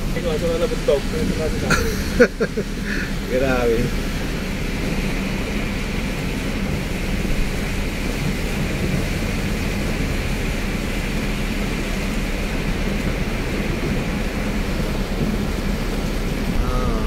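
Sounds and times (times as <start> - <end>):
bus rumble and road noise: 0.0 - 17.0.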